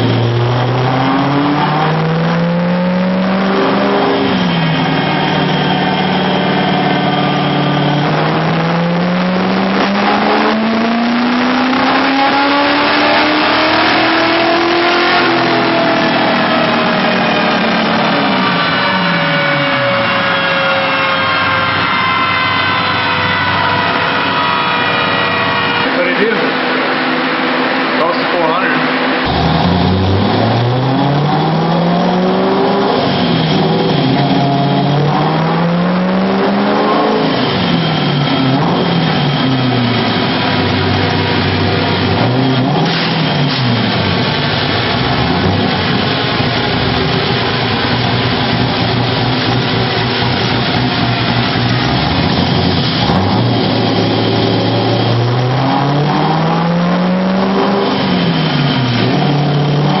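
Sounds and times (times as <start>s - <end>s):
vehicle engine revving: 0.0s - 60.0s.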